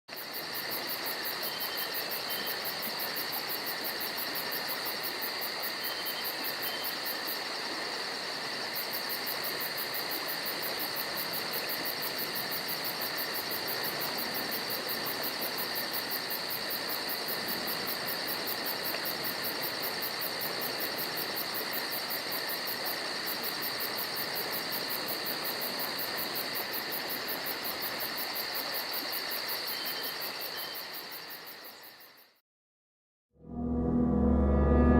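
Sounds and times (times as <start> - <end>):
insects trilling: 0.1 - 32.3.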